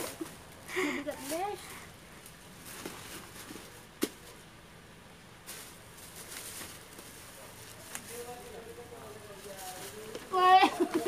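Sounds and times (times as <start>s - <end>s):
plastic bags rustling: 0.0s - 4.6s, 5.2s - 11.0s.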